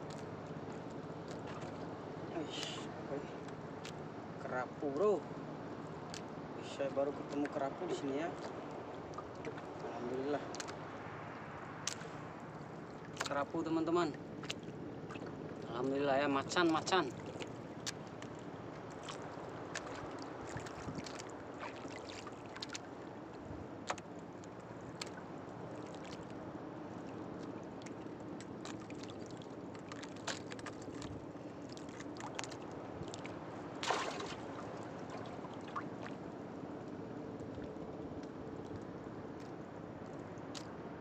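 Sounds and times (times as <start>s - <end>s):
water washing around boat: 0.0s - 41.0s.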